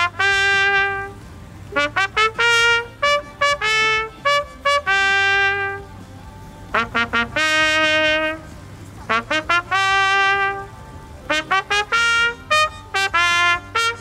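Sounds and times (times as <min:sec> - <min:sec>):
trumpet playing a fanfare: 0:00.0 - 0:06.1, 0:06.7 - 0:14.0.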